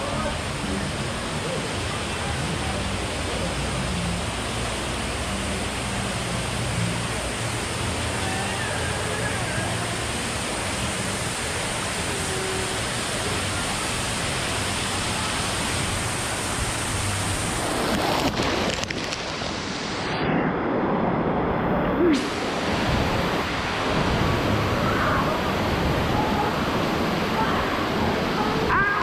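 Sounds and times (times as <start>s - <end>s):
water splashes: 0.0s - 20.3s, 20.9s - 29.0s
rushing churning water: 0.0s - 29.0s.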